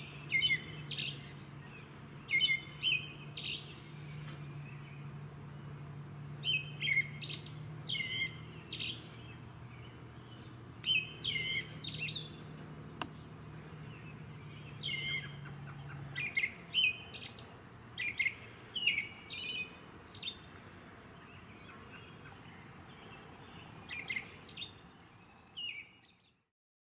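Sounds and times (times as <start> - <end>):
low steady hum: 0.0 - 25.4
bird singing: 0.0 - 26.5.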